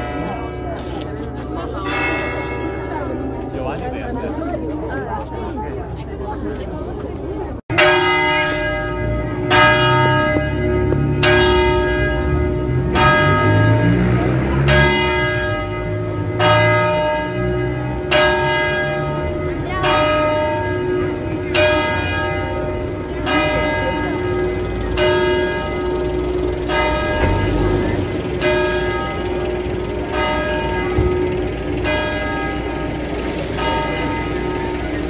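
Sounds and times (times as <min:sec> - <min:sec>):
church bell ringing: 0:00.0 - 0:05.2, 0:07.6 - 0:35.0.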